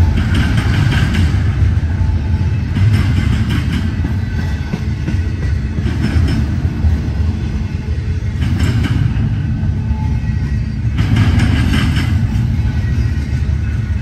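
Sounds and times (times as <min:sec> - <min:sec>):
high-pitched train clattering: 0:00.0 - 0:14.0
train wheels rumbling on rail: 0:00.0 - 0:14.0.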